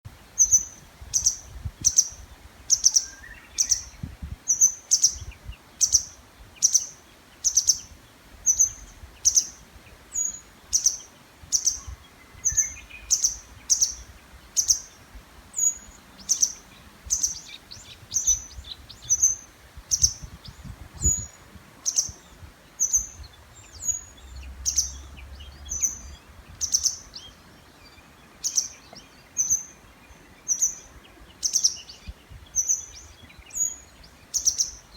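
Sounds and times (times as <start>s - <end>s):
faint birdsong: 0.1s - 34.9s.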